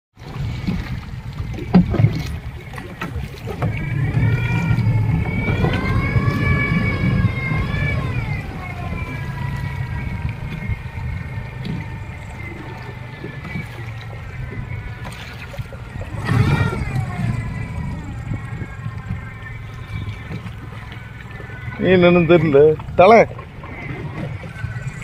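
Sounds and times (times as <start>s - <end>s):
boat motor whine: 0.2s - 25.0s
low rumble: 0.2s - 25.0s.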